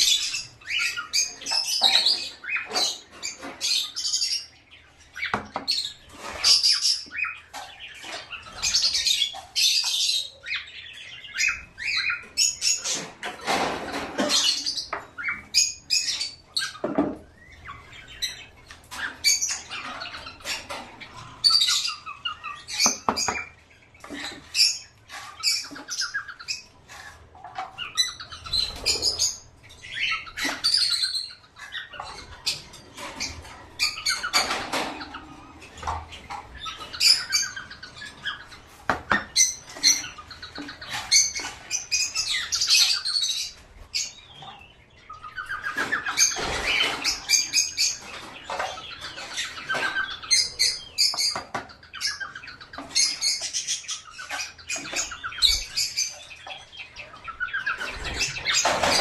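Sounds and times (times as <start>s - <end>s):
small birds chirping and squawking: 0.0s - 59.0s.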